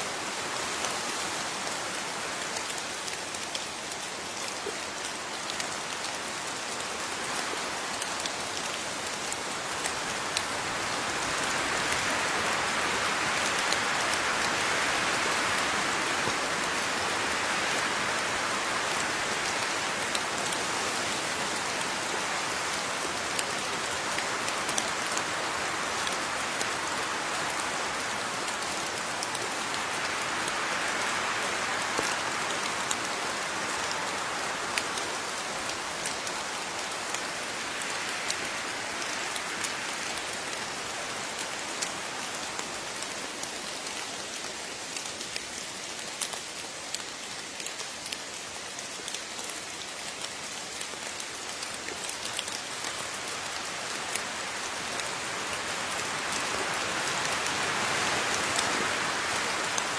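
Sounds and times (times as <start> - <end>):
steady rain: 0.0 - 59.9
raindrops ticking on a surface: 0.1 - 59.9.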